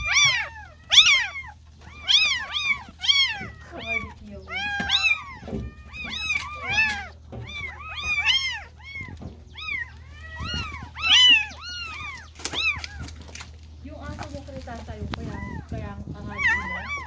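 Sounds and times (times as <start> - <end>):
kittens mewing: 0.0 - 17.0.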